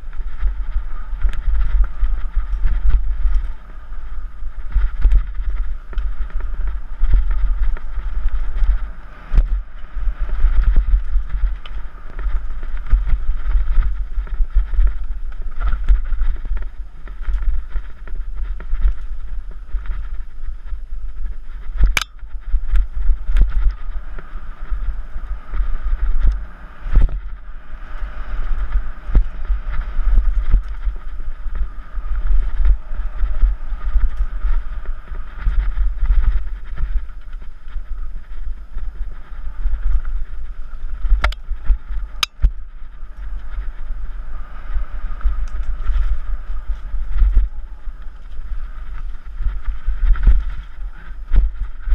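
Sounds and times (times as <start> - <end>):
bike rattles and clicks: 0.0 - 51.9
bike tyre noise on dirt: 0.0 - 51.9
wind buffeting microphone: 0.0 - 51.9.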